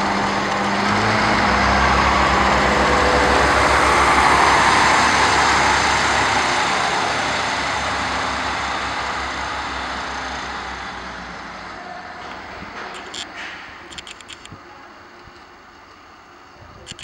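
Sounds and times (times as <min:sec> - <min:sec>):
diesel railcar engine rumble: 0:00.0 - 0:17.0
train rolling noise: 0:00.0 - 0:17.0.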